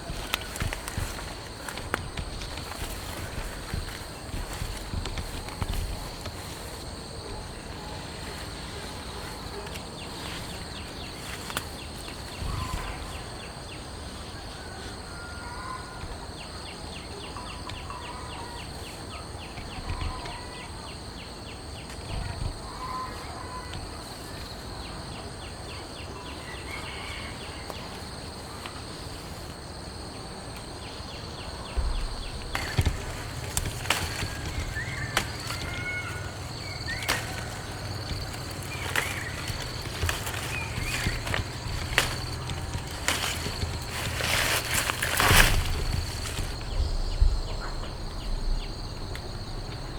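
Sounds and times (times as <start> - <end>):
insects buzzing and trilling: 0.0 - 49.9.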